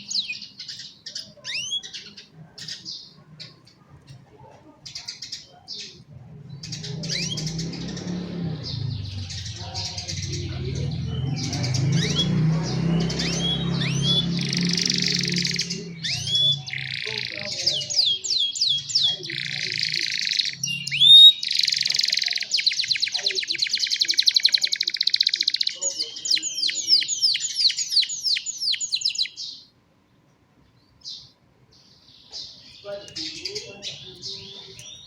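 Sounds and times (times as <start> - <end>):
canaries singing trills: 0.0 - 35.0.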